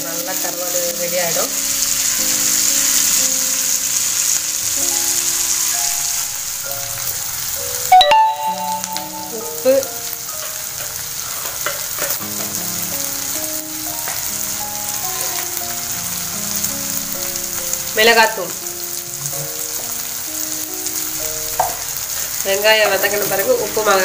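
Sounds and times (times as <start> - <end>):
onions and fish frying in oil: 0.0 - 24.0.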